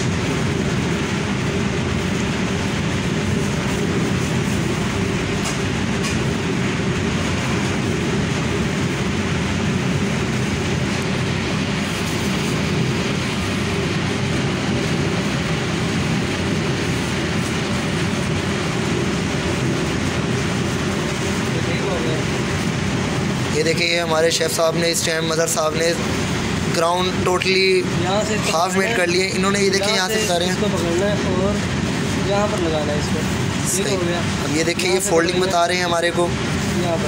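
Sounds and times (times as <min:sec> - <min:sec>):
kitchen equipment drone: 0:00.0 - 0:37.0.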